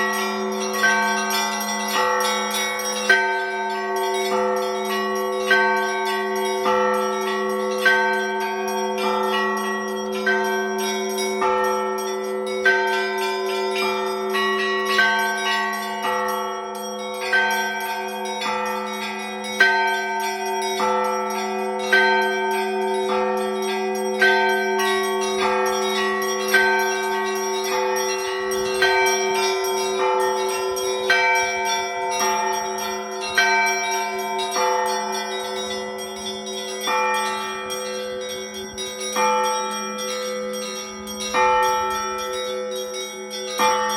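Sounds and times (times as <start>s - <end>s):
large bells ringing: 0.0s - 43.9s.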